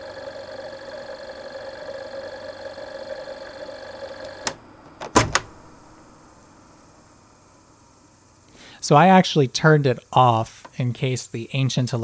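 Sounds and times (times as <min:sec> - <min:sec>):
disc player hum and whine: 0:00.0 - 0:12.0.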